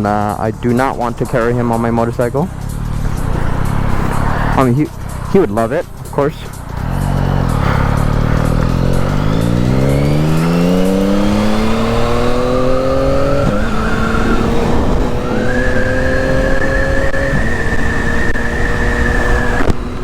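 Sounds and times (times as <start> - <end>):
motorcycle engine accelerating: 1.4 - 20.0.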